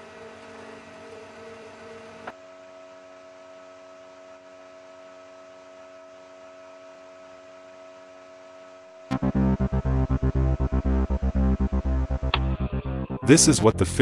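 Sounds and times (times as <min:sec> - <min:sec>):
machine electrical hum: 0:00.0 - 0:13.8.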